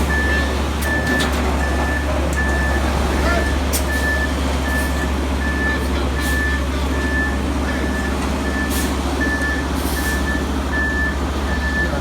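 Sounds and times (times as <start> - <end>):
diesel engine running: 0.0 - 12.0
truck reversing alarm beeping: 0.0 - 12.0.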